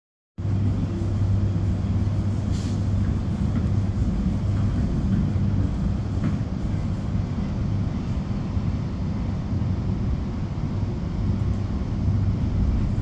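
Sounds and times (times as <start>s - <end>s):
train rumble: 0.4s - 13.0s.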